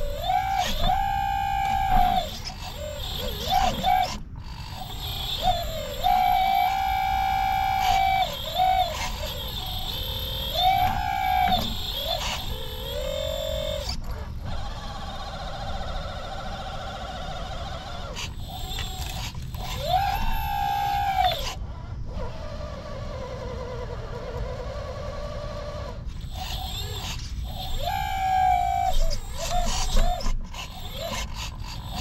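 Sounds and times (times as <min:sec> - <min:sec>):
small electric motors whining: 0:00.0 - 0:32.0.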